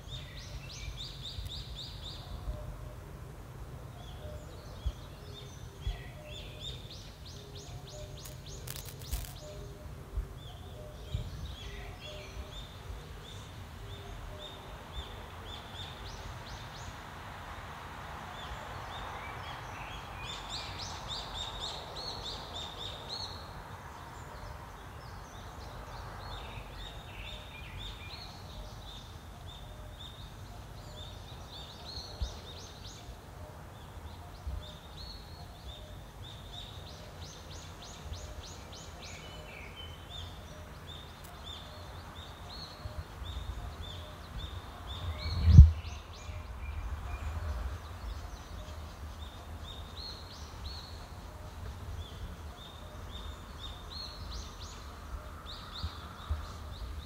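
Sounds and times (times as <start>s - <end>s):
low rumble of wind: 0.0s - 57.0s.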